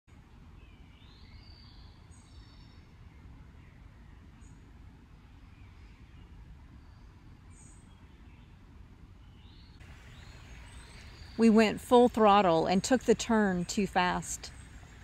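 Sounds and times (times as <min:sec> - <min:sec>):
low outdoor rumble: 0:00.1 - 0:15.0.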